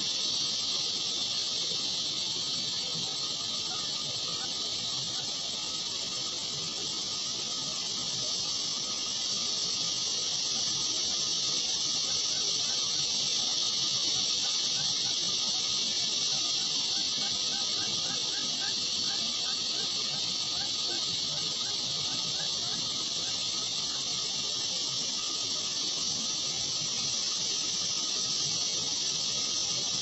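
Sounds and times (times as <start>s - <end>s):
steady high-pitched hiss: 0.0s - 30.0s.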